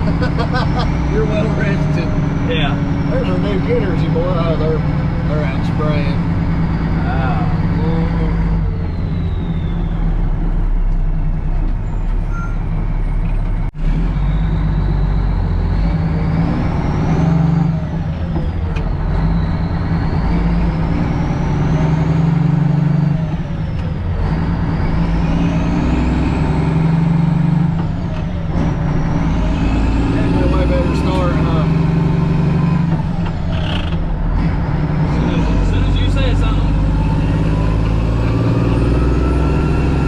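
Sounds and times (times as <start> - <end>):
truck diesel engine shifting gears: 0.0 - 40.0.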